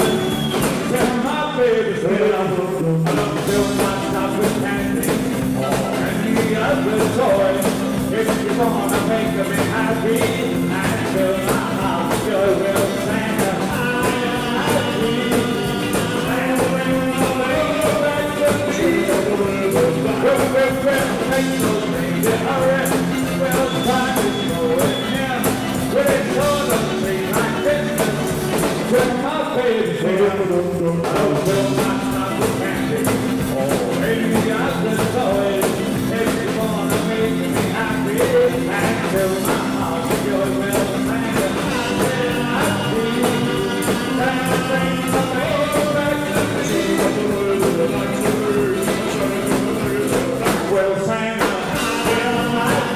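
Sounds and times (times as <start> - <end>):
rock band playing live: 0.0 - 52.9.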